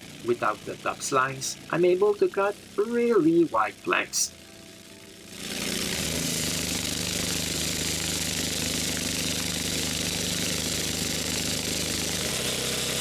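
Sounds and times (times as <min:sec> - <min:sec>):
saw blade cutting log: 0:00.0 - 0:04.4, 0:05.3 - 0:13.0
sawmill engine running: 0:00.0 - 0:13.0.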